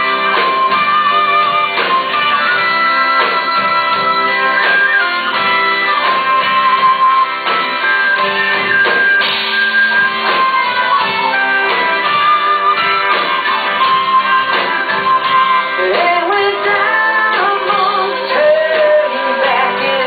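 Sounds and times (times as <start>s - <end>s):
electric guitar solo: 0.0s - 20.0s
live rock band playing: 0.0s - 20.0s.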